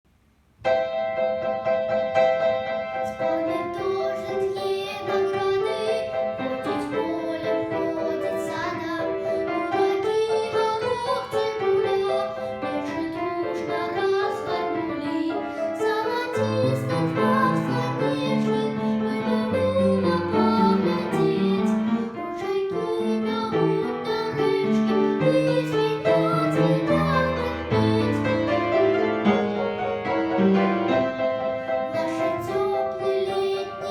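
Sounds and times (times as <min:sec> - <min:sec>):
piano accompaniment: 0:00.5 - 0:33.9
girl singing: 0:02.9 - 0:28.8, 0:31.6 - 0:33.9.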